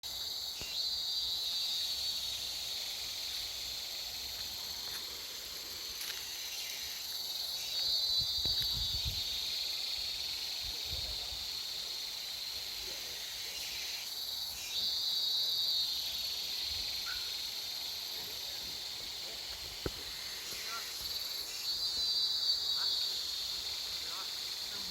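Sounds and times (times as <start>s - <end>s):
insects chorus: 0.0s - 24.9s.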